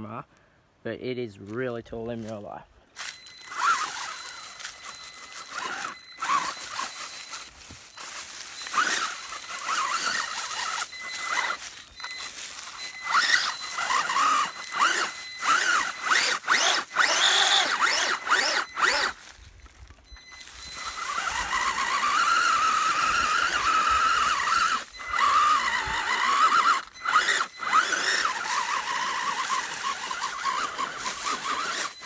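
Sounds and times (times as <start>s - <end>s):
tyres crunching through dry leaves: 1.4s - 32.0s
toy car electric motor whining: 3.0s - 32.0s.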